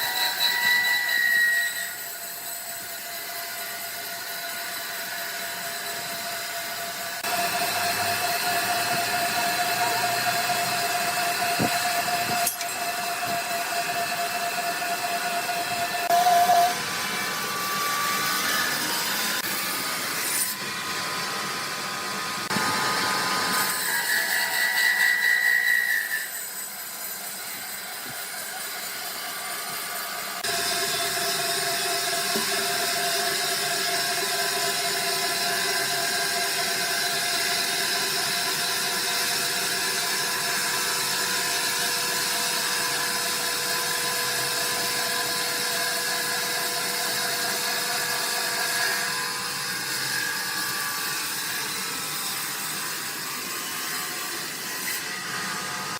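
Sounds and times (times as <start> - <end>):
sawmill machinery whining: 0.0 - 55.9.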